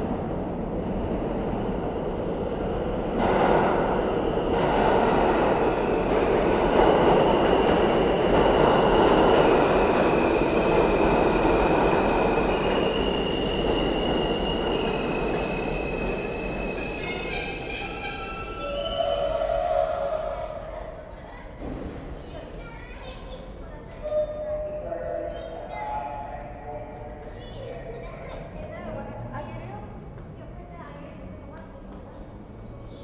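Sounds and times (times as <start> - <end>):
subway train rumbling on rails: 0.0 - 33.0.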